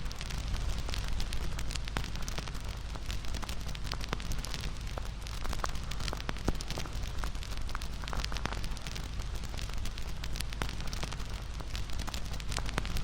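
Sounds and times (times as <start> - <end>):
low rumble of flames: 0.0 - 13.0
wood fire pops and snaps: 0.0 - 13.0.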